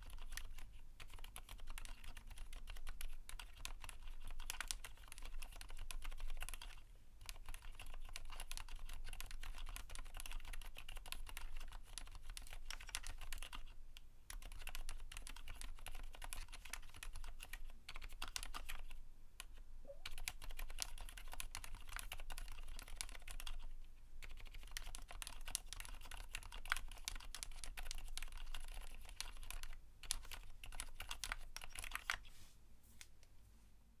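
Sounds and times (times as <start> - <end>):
typing on mechanical keyboard: 0.0 - 32.2.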